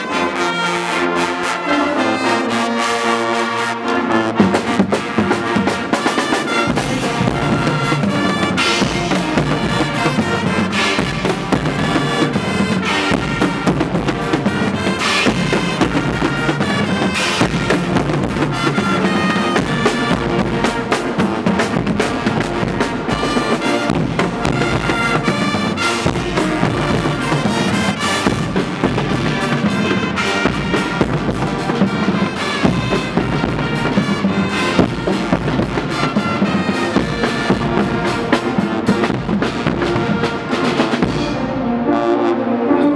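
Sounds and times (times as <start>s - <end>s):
brass band playing: 0.0s - 42.9s
drums keeping a beat: 4.3s - 41.6s.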